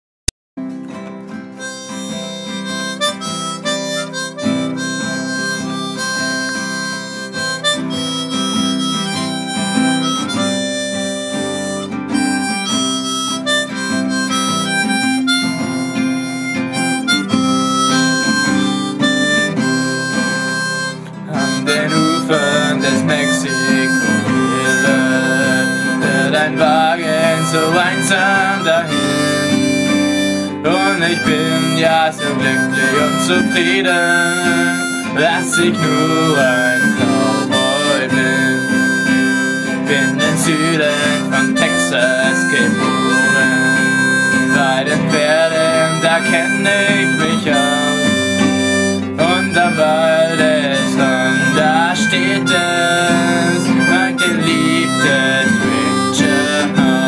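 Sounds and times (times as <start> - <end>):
acoustic guitar accompaniment: 0.6 - 57.0
harmonica melody: 1.2 - 57.0.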